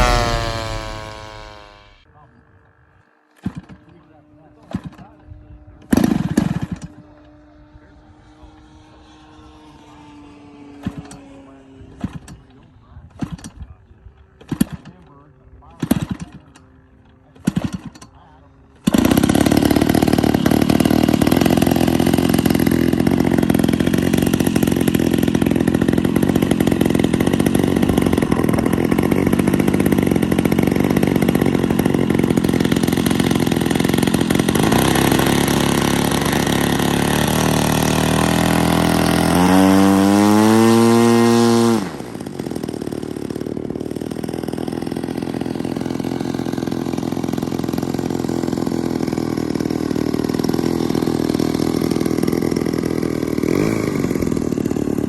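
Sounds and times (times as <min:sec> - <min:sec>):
model plane engine flying by: 0:00.0 - 0:02.0, 0:03.8 - 0:14.4, 0:15.0 - 0:55.0.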